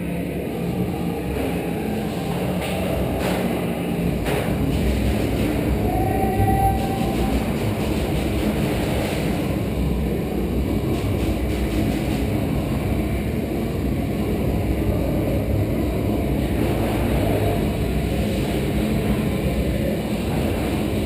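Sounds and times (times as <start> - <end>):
steady low rumbling: 0.0 - 21.0.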